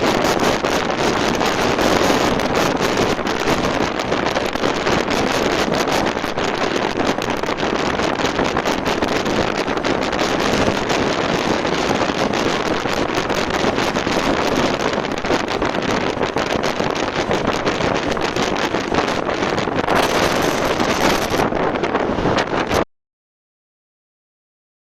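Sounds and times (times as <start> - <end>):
wind buffeting microphone: 0.0 - 22.8.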